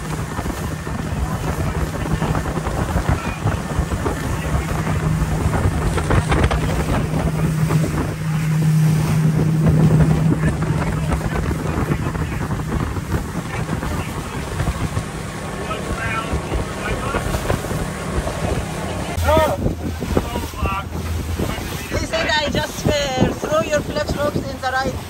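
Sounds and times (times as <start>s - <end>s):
boat motor droning: 0.0s - 25.0s
water rushing past hull: 0.0s - 25.0s
wind buffeting microphone: 0.0s - 25.0s.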